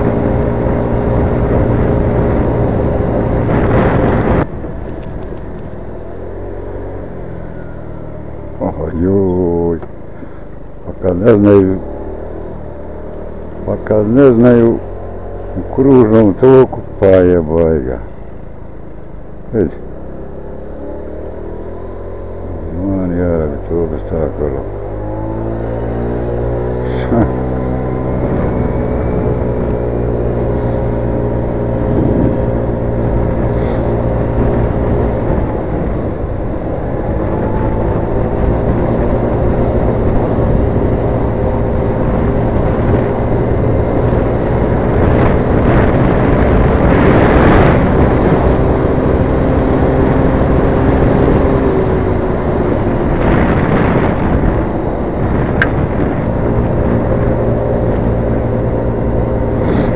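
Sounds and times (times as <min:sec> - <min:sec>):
low rumble of wind and road: 0:00.0 - 0:59.9
motor scooter engine humming: 0:00.0 - 0:59.9.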